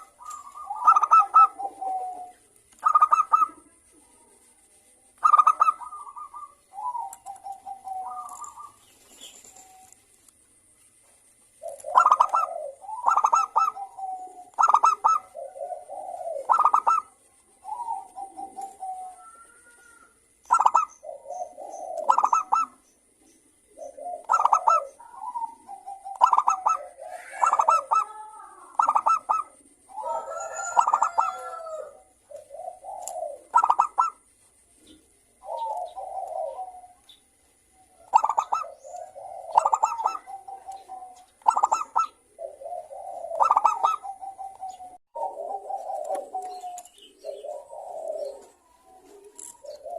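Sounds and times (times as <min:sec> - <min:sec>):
doves cooing: 0:00.0 - 0:49.9.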